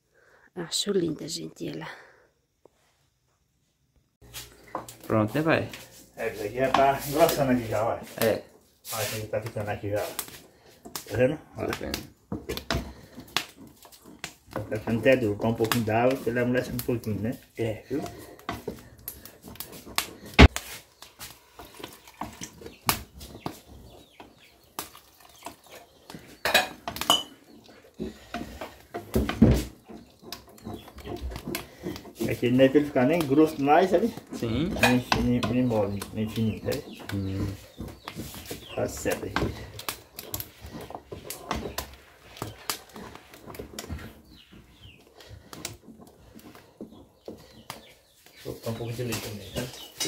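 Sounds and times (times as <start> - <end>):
wooden spoon scraping a pot: 4.2 - 50.0.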